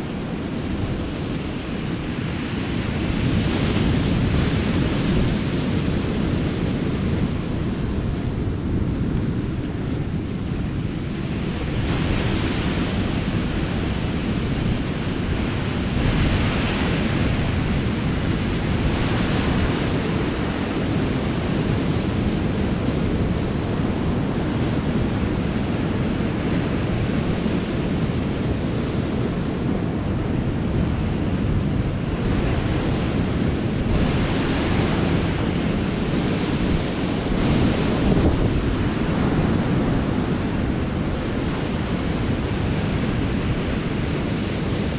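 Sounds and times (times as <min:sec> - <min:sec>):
waves washing in: 0:00.0 - 0:44.9
wind buffeting microphone: 0:00.0 - 0:44.9.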